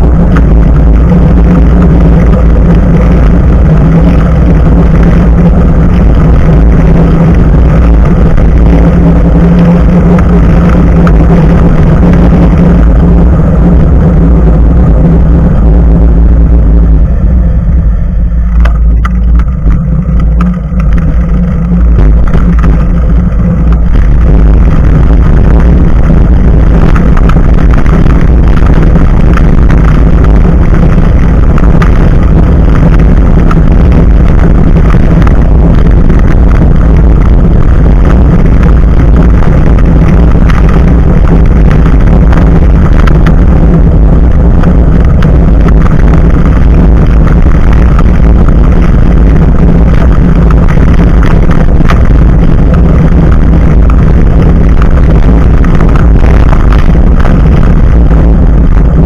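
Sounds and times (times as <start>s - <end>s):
heavy wind buffeting: 0.0s - 59.0s
tyre rumble: 0.0s - 59.0s.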